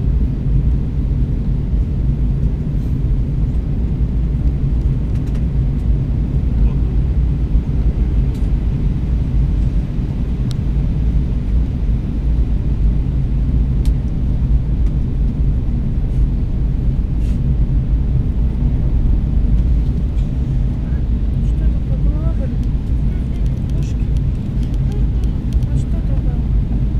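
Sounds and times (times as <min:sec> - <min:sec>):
airplane cabin engine rumble: 0:00.0 - 0:26.9.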